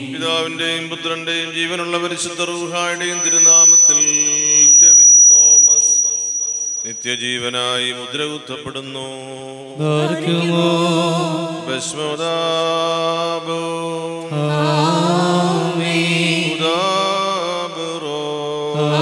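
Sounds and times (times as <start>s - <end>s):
man singing a slow chant: 0.0s - 3.6s, 7.0s - 19.0s.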